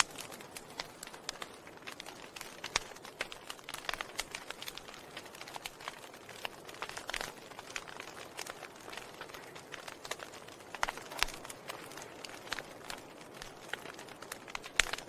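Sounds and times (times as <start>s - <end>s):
fire crackling and popping: 0.0s - 15.0s
soft steady hiss: 0.0s - 15.0s.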